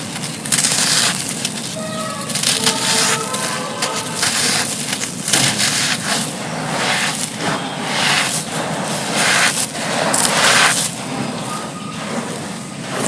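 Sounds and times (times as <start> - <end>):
crumbly slabs crunching by hand: 0.0 - 11.2.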